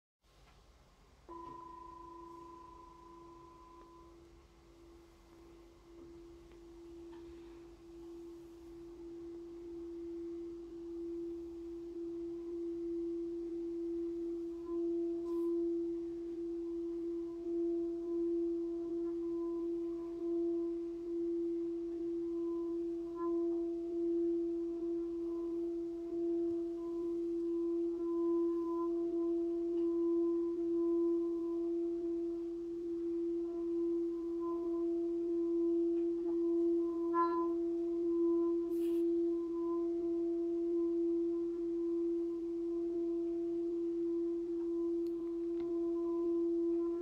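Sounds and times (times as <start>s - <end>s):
singing bowl tone: 1.1s - 47.0s.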